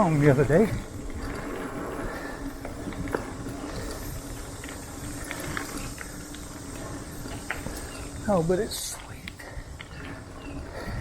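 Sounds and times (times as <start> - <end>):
bike clicking and rattling: 0.0 - 11.0
bike tyres rumbling on dirt trail: 0.0 - 11.0.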